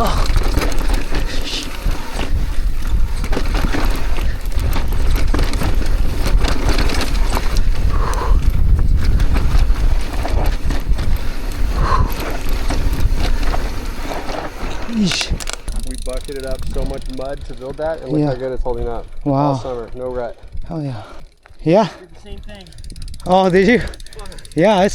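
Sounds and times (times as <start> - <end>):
wind noise on microphone: 0.0 - 19.3, 22.2 - 24.9
bike rattling and clicking: 0.0 - 24.9
bike tyres rolling over dirt: 0.0 - 24.9.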